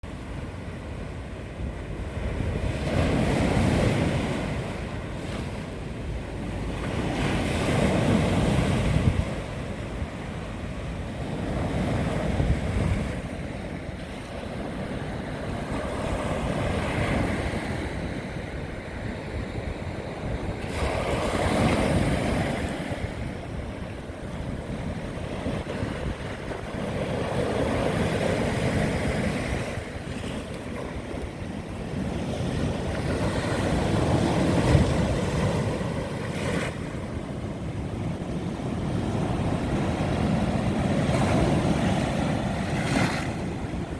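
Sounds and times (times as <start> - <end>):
wind on microphone: 0.0 - 43.9
sea waves breaking: 0.1 - 43.9.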